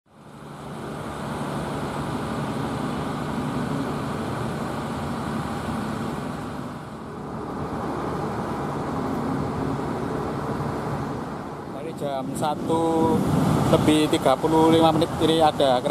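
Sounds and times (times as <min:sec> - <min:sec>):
road traffic drone: 0:00.1 - 0:15.9.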